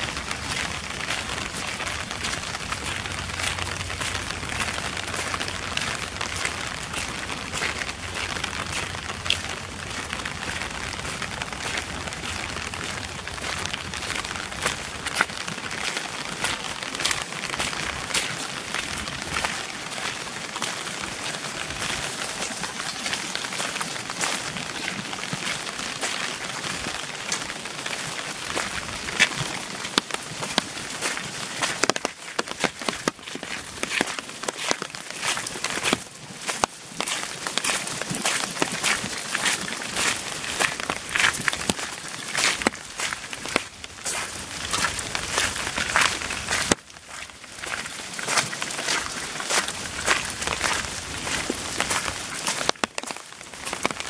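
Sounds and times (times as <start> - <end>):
heavy rain falling: 0.0 - 54.0
raindrops ticking close by: 0.0 - 54.0.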